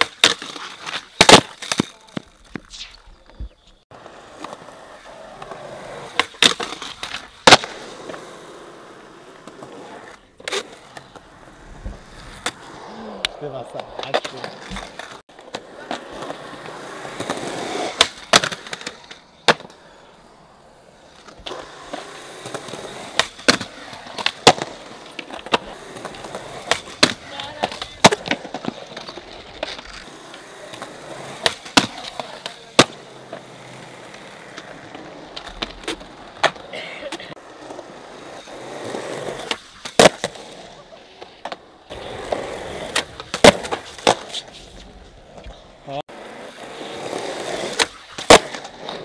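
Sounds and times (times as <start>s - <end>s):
skateboard clacks: 0.0s - 8.4s, 13.2s - 20.0s, 21.2s - 49.0s
skateboards rolling on concrete: 0.0s - 49.0s.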